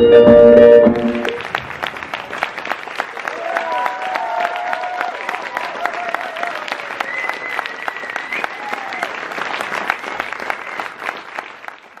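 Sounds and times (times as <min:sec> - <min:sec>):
audience clapping: 0:00.8 - 0:12.0.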